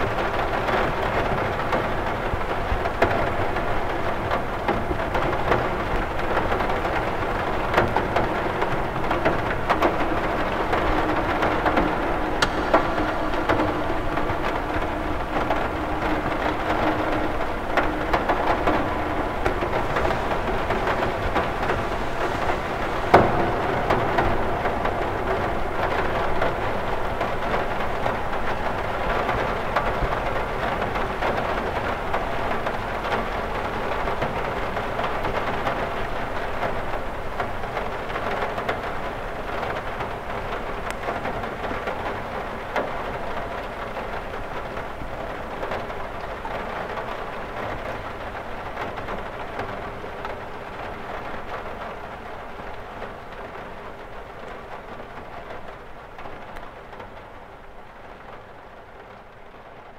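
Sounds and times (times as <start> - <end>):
rain pattering on window glass: 0.0 - 59.9.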